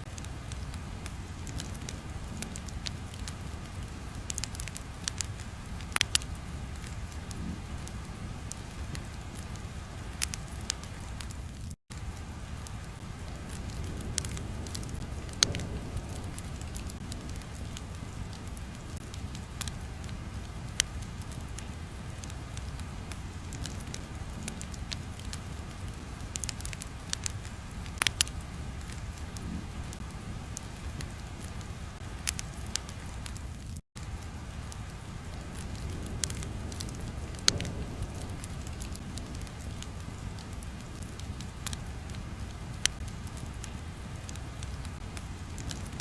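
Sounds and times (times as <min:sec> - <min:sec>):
fire crackling with pops: 0:00.0 - 0:46.0
steady low rumble: 0:00.0 - 0:46.0.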